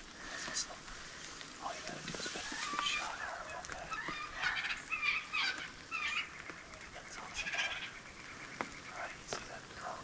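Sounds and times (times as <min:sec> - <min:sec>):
turkeys calling: 0:00.2 - 0:10.0.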